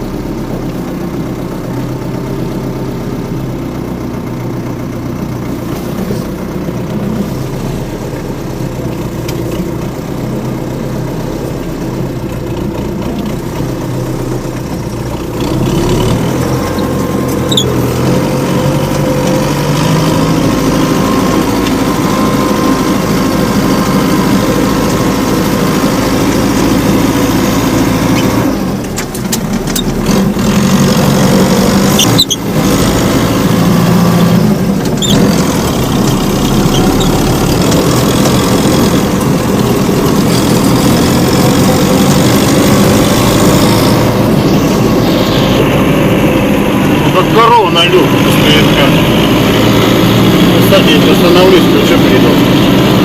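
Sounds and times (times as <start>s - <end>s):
small tractor engine running: 0.0s - 53.0s.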